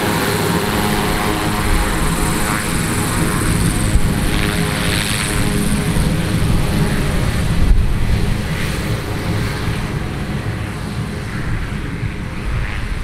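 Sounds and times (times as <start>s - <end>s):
turboprop engine running: 0.0s - 13.0s.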